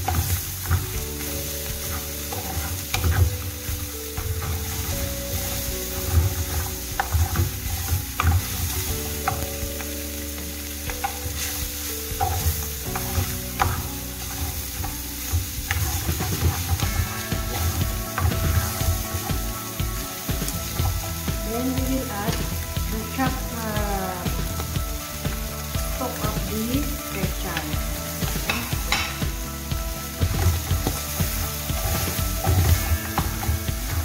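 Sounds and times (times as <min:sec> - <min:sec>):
spatula scraping and knocking pan: 0:00.0 - 0:10.0, 0:10.8 - 0:23.5, 0:24.3 - 0:34.0
food sizzling in pan: 0:00.0 - 0:34.0.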